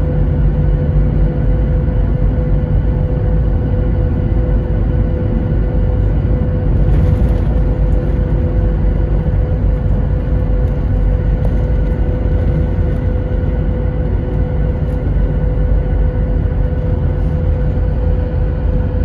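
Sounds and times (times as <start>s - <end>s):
jet engine and airflow rumble: 0.0s - 19.0s
steady cabin hum: 0.0s - 19.0s.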